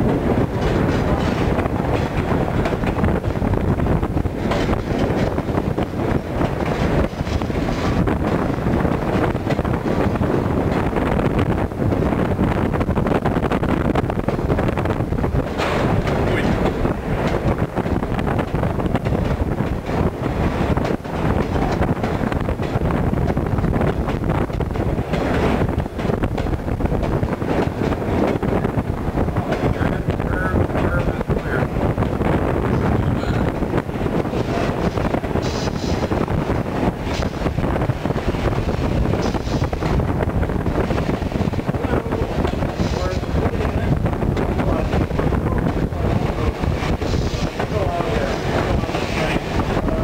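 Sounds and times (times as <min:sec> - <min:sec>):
clicks over rail joints: 0:00.0 - 0:11.0, 0:15.2 - 0:50.0
train wheels on rail: 0:00.0 - 0:50.0
wind buffeting the microphone: 0:00.0 - 0:50.0.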